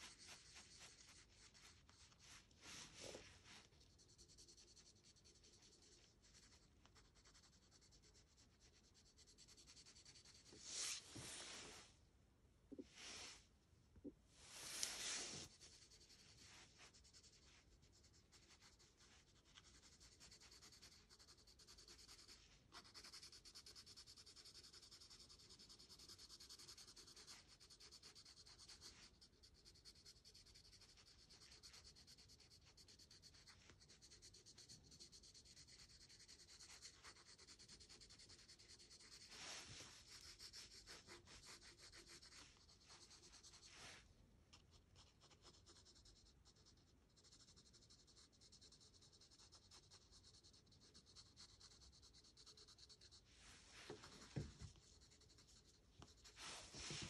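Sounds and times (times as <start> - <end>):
pencil scratching on paper: 0.0 - 11.6, 14.5 - 57.0.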